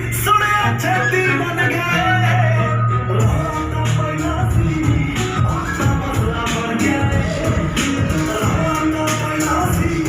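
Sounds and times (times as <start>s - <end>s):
music with heavy bass and percussion: 0.0s - 10.0s.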